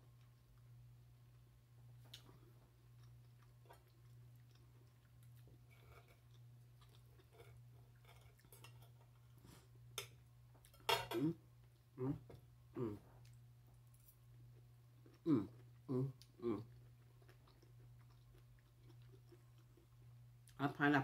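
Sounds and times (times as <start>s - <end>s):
person chewing food: 0.1s - 20.6s.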